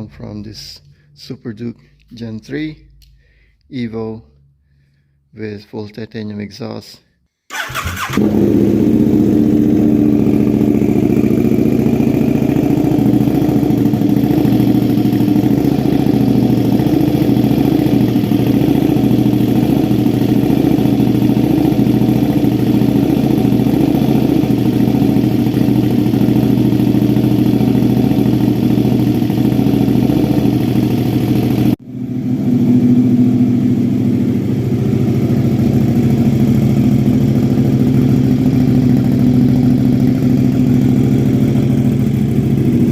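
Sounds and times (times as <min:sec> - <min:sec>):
motorcycle engine idling: 0:07.5 - 0:42.9.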